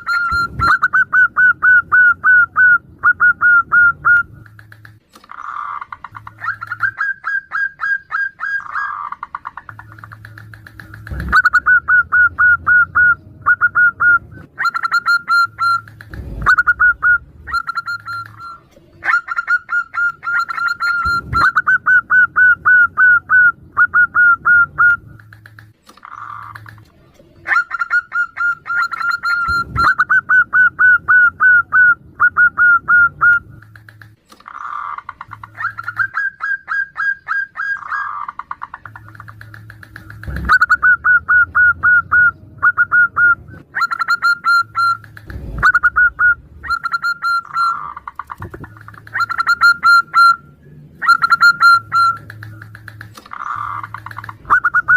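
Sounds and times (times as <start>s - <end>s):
soft dove coos: 0.0s - 50.4s
doves calling staccato notes: 0.0s - 54.9s.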